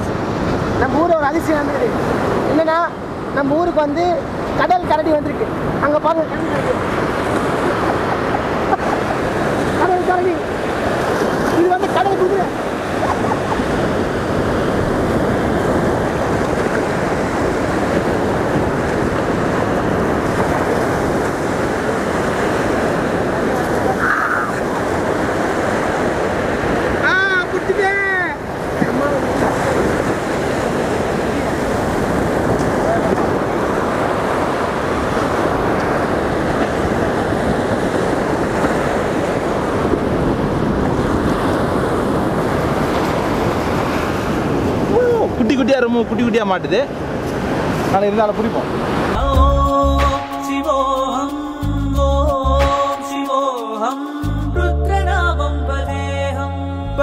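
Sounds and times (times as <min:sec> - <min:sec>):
wind buffeting microphone: 0:00.0 - 0:46.2
surf breaking on beach: 0:00.0 - 0:49.2.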